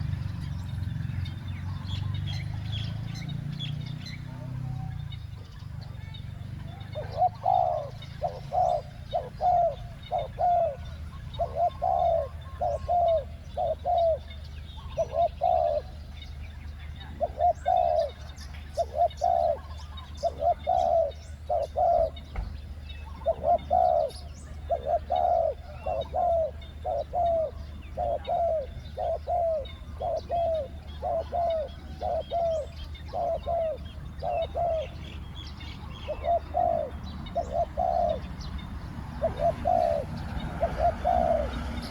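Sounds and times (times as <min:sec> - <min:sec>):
doves cooing: 0:00.0 - 0:41.9
small birds chirping faintly: 0:00.0 - 0:41.9.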